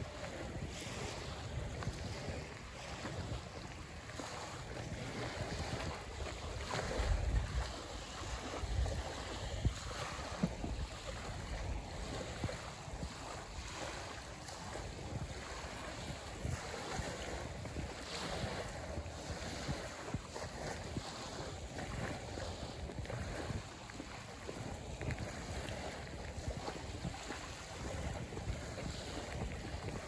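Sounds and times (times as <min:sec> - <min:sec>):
small waves lapping on sand: 0:00.0 - 0:30.0
wind buffeting microphone: 0:00.0 - 0:30.0.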